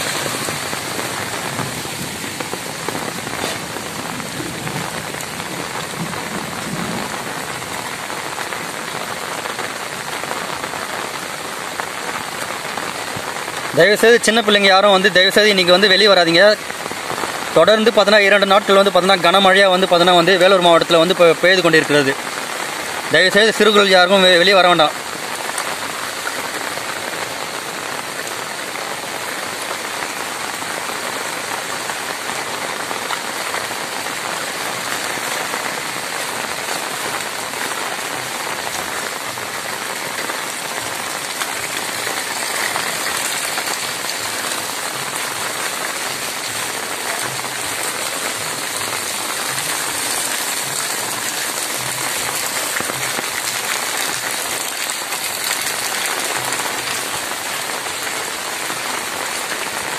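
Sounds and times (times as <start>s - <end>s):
heavy rain on wet pavement: 0.0s - 59.9s.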